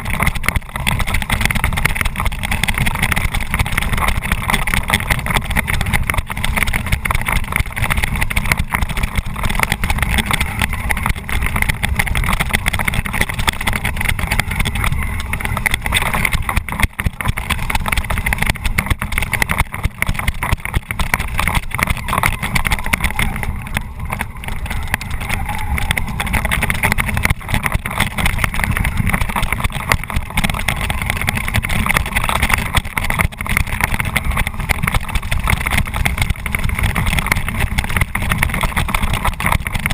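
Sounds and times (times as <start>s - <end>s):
chassis rumble and knocks: 0.0s - 39.9s.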